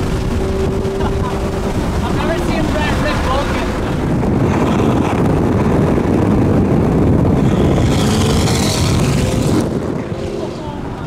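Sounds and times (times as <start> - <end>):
car engine running loud: 0.0 - 11.0.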